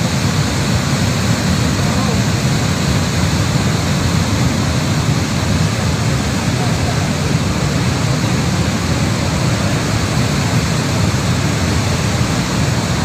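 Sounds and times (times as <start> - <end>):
flash flood water roaring: 0.0 - 13.0.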